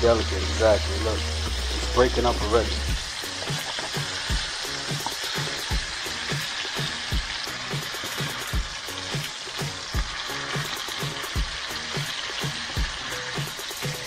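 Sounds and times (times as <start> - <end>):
background music with beat: 0.0 - 14.0
fish frying in oil: 0.0 - 14.0.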